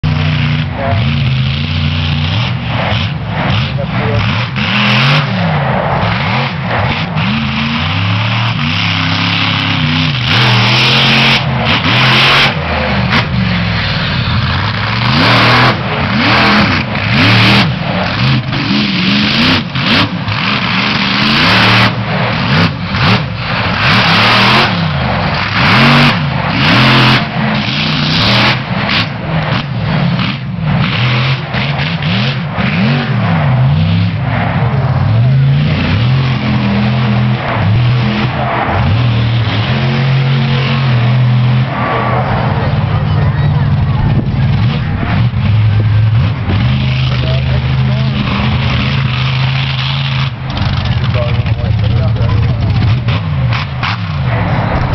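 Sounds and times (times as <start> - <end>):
truck engine revving hard: 0.0 - 54.9.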